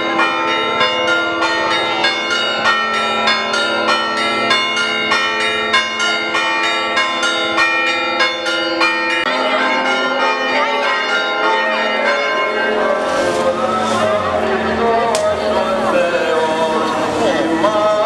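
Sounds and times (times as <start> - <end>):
church bells ringing peal: 0.0 - 18.0.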